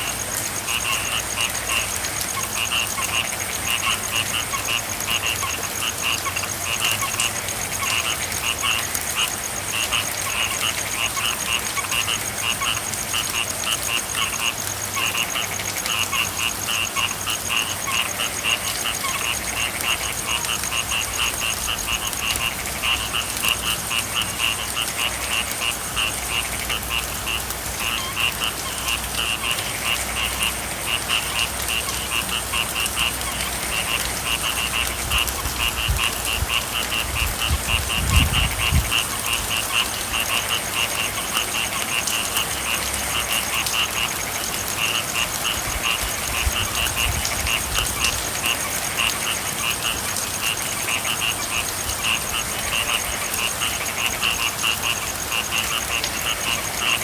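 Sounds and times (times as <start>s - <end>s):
frogs croaking: 0.0s - 57.0s
rain hiss: 0.0s - 57.0s.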